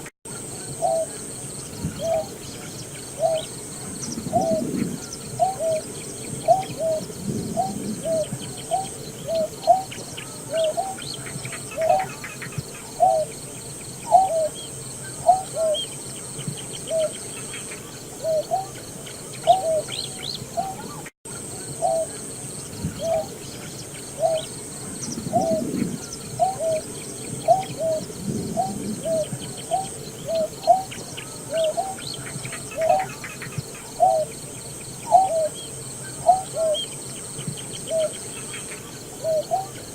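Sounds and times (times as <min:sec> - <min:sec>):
bird low hooting notes: 0:00.0 - 0:39.9.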